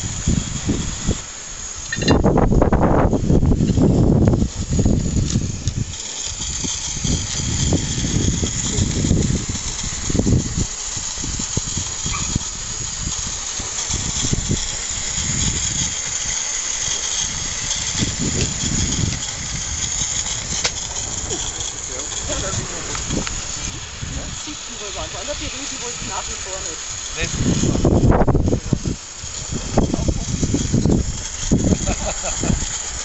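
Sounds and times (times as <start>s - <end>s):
low rumbling: 0.0s - 32.7s
model locomotive whirring: 0.0s - 33.0s.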